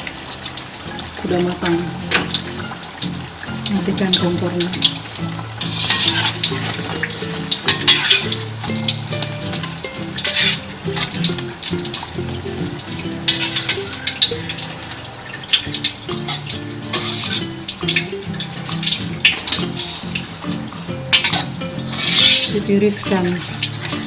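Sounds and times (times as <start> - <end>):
background music: 0.0 - 24.0
oil sizzling and crackling: 0.0 - 24.0.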